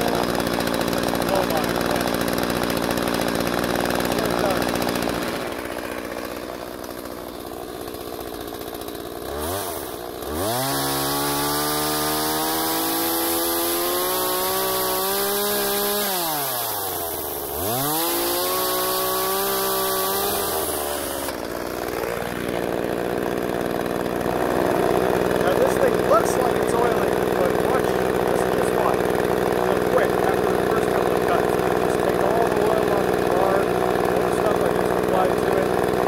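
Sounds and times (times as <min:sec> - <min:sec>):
chainsaw idling and revving: 0:00.0 - 0:36.0.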